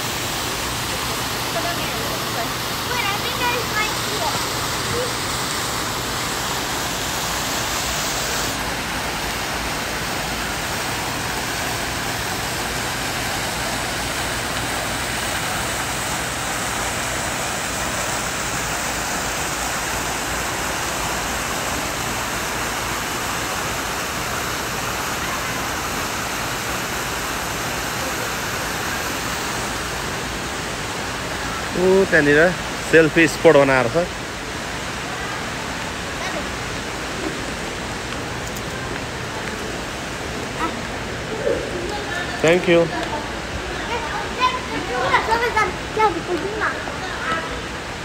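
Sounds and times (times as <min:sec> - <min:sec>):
fountain water splashing: 0:00.0 - 0:48.0.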